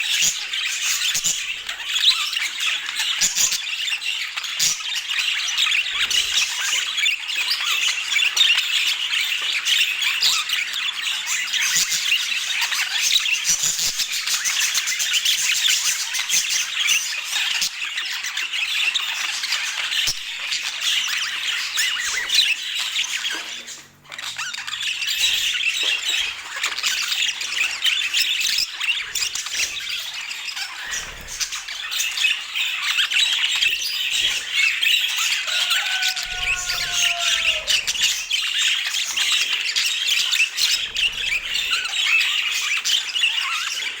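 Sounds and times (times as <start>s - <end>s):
budgerigars chattering and chirping: 0.0s - 44.0s.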